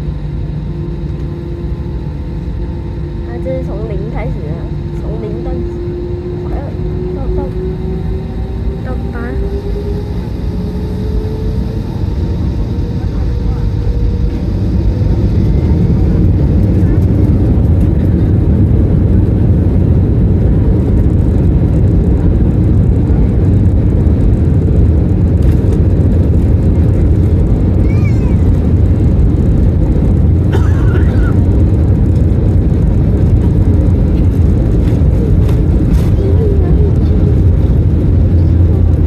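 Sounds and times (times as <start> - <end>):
airplane cabin engine rumble: 0.0 - 39.0.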